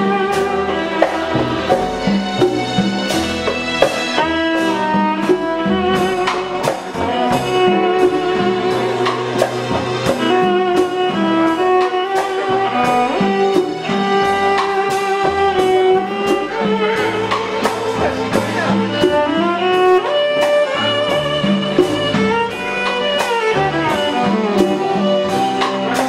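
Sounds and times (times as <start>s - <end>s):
drums: 0.0s - 26.0s
keyboard: 0.0s - 26.0s
violin playing long bowed notes: 0.0s - 26.0s.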